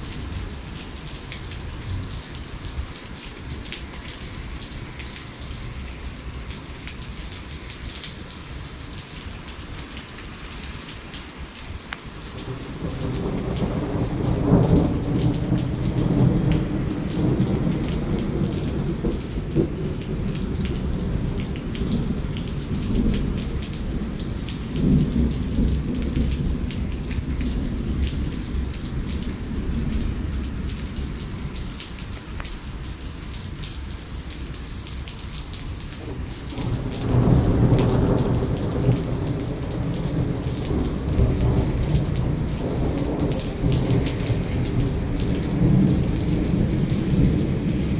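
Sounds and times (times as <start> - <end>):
heavy rain on asphalt: 0.0 - 47.9.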